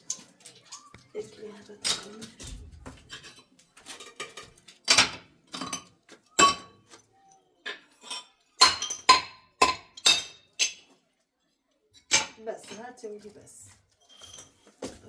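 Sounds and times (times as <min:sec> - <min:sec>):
ceramic tiles and tools clinking: 0:00.0 - 0:11.0, 0:12.0 - 0:15.0.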